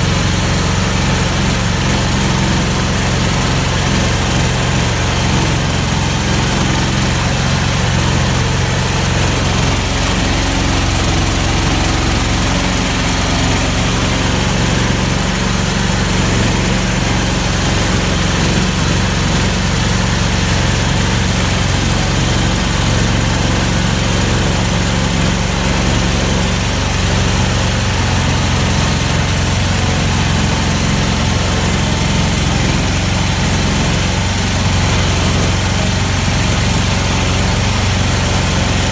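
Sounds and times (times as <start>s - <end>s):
vehicle engine under load: 0.0s - 38.9s.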